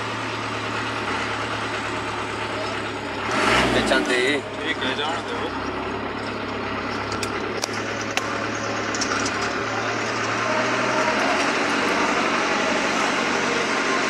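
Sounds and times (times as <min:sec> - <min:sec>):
road and wind noise: 0:00.0 - 0:14.0
truck diesel engine running: 0:00.0 - 0:14.0.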